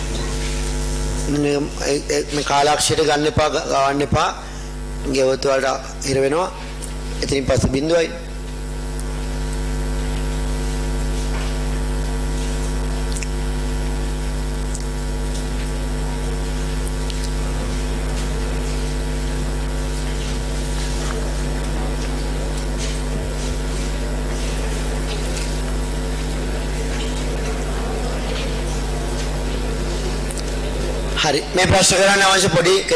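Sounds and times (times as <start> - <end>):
electrical mains hum: 0.0 - 32.9.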